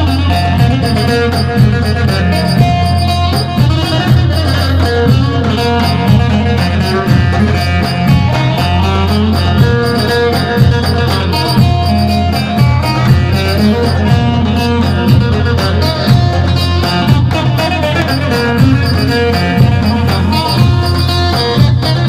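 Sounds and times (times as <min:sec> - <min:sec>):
bass drum beating: 0:00.0 - 0:22.0
folk melody line: 0:00.0 - 0:22.0.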